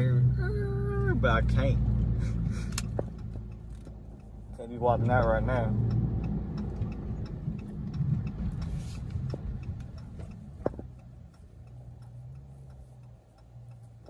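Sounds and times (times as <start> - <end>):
car engine rumble: 0.0 - 14.0
turn signal ticking: 0.0 - 14.0.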